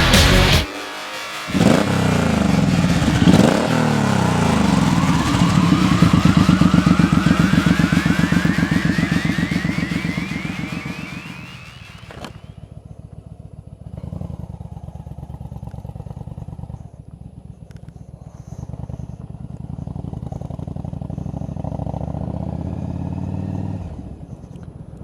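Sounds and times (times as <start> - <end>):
motorcycle engine running: 1.3 - 25.0.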